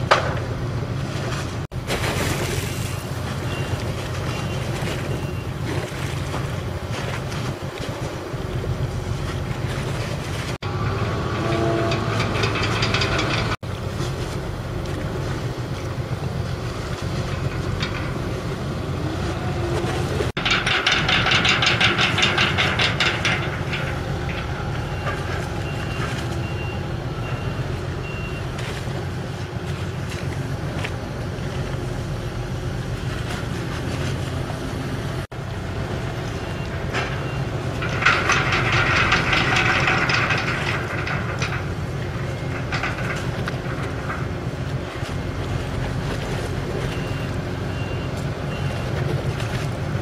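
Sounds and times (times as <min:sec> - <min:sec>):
ship diesel engine rumbling: 0:00.0 - 0:50.0.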